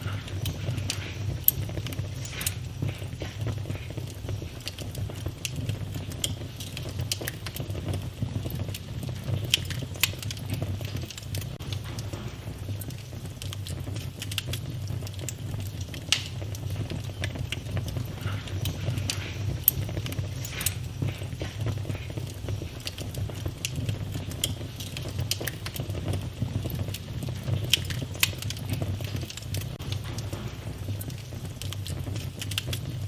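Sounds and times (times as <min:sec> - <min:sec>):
low fire rumble: 0:00.0 - 0:33.0
wood fire crackling and popping: 0:00.0 - 0:33.0.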